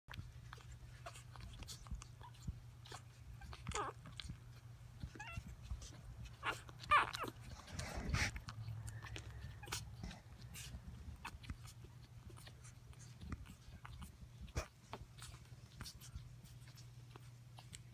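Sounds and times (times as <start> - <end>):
puppies squeaking and whimpering: 0.1 - 17.9
small clicks and rustles: 0.1 - 17.9
steady low hum: 0.1 - 17.9.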